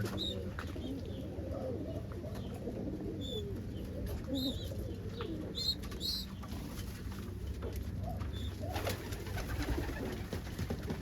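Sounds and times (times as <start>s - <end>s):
pigeons cooing: 0.0s - 7.0s, 8.0s - 10.6s.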